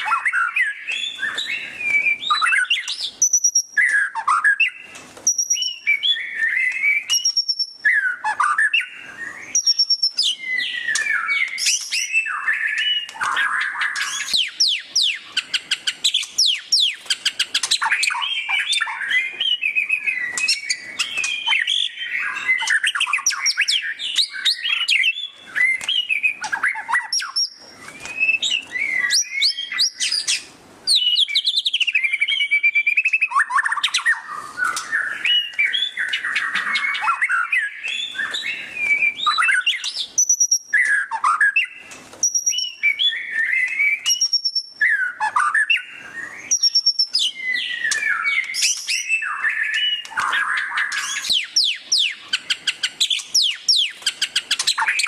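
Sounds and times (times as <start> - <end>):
songbird singing varied song: 0.0 - 55.0.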